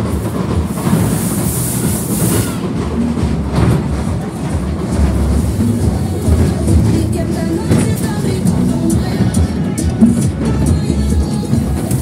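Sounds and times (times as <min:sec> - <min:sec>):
ride cars rumbling on track: 0:00.0 - 0:12.0.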